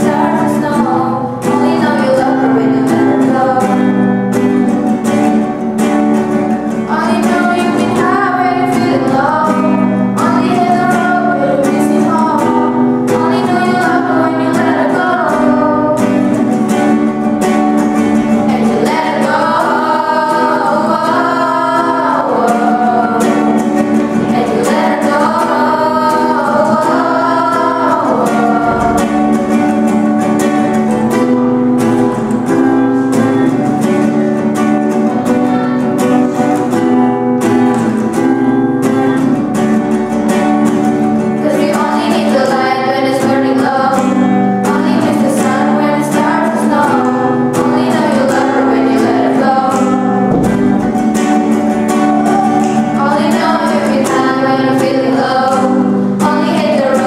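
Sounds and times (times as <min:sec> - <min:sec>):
girls singing: 0:00.0 - 0:05.4, 0:06.3 - 0:57.0
acoustic guitar strumming: 0:00.0 - 0:57.0.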